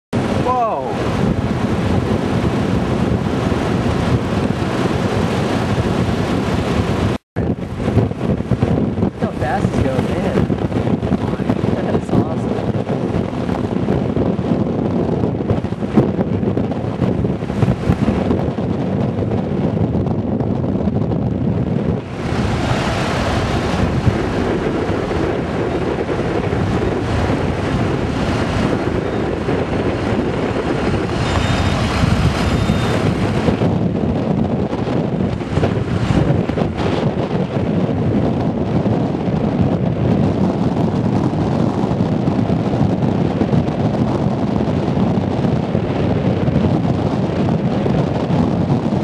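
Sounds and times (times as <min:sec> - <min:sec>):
wind buffeting microphone: 0:00.1 - 0:49.0.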